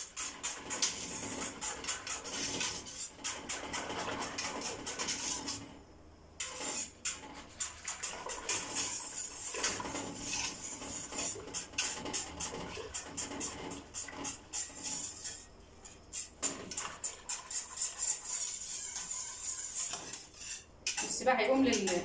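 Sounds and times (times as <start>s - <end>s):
whisk scraping metal pot: 0.0s - 5.8s, 6.4s - 22.0s.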